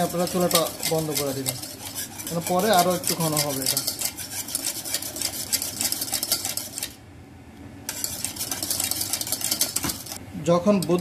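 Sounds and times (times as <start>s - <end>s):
whisk scraping metal pot: 0.0s - 7.0s, 7.9s - 11.0s.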